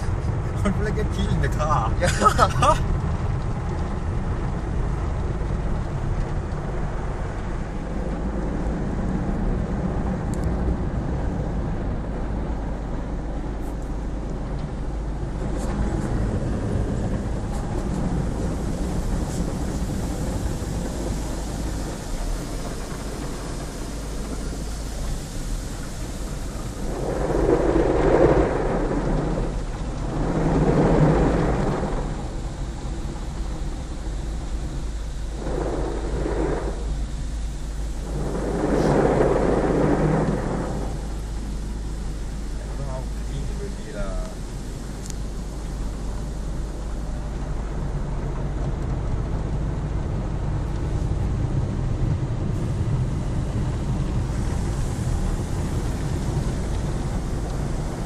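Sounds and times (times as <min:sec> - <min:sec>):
car wash water jets spraying: 0:00.0 - 0:58.0.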